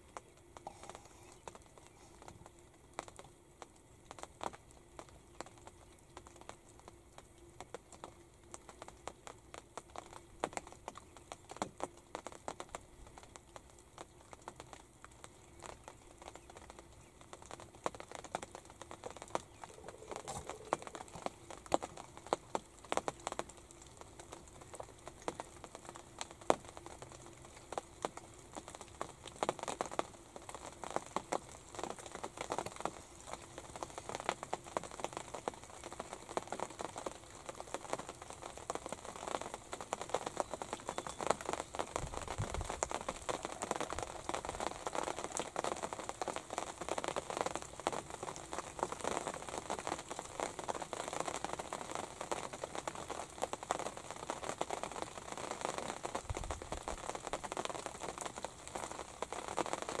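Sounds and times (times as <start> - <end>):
light rain on fabric roof: 0.0 - 60.0.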